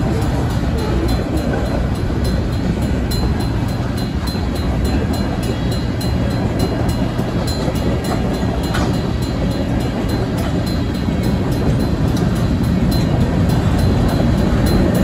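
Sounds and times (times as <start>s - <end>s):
crossing bell ringing: 0.0s - 15.0s
train wheels rumbling on rail: 0.0s - 15.0s.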